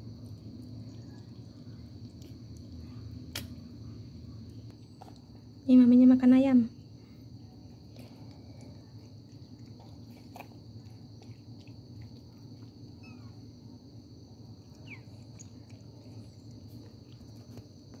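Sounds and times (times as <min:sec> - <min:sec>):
crickets chirring: 0:00.0 - 0:18.0
low steady hum: 0:00.0 - 0:18.0.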